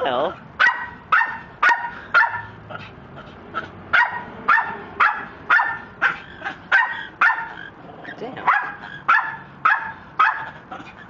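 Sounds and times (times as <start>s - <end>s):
parrot barking: 0.6s - 2.6s, 3.6s - 11.0s.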